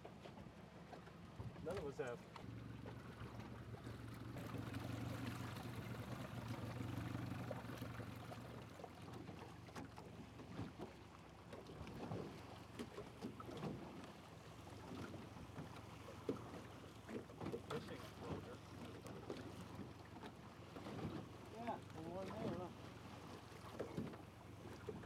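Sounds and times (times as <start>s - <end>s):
boat motor humming: 0.0s - 25.0s
water splashing against hull: 0.0s - 25.0s.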